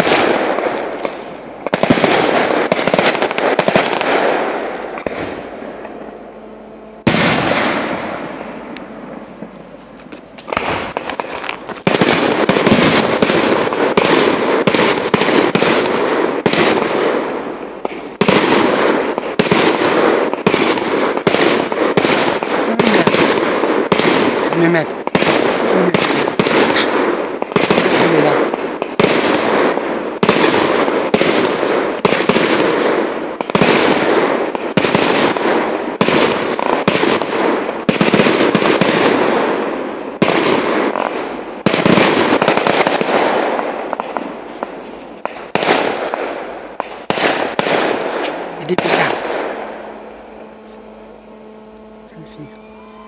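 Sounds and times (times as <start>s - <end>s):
fireworks shells bursting: 7.0s - 53.0s.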